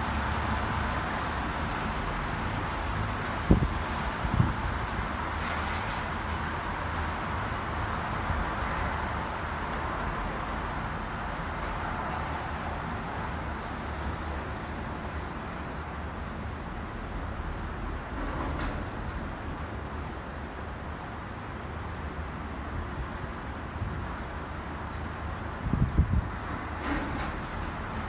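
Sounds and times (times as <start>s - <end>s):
city traffic: 0.0s - 28.0s
strong wind: 0.0s - 28.0s.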